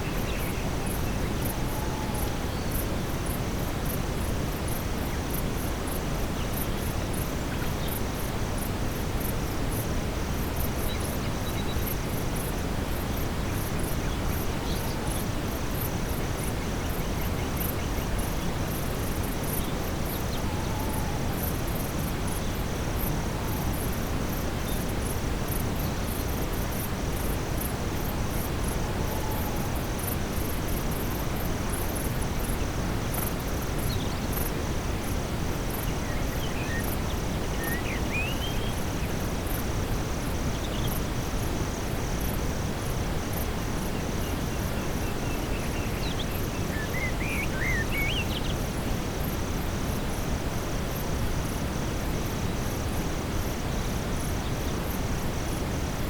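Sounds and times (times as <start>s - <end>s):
constant brown noise: 0.0s - 56.0s
insects chirping in rapid trills: 0.0s - 56.0s
steadier lower insect trill: 0.0s - 56.0s.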